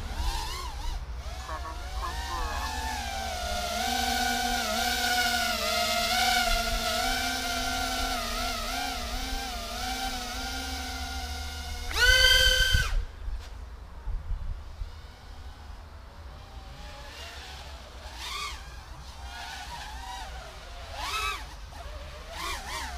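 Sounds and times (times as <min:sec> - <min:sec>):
quadcopter motors whining: 0:00.0 - 0:22.9.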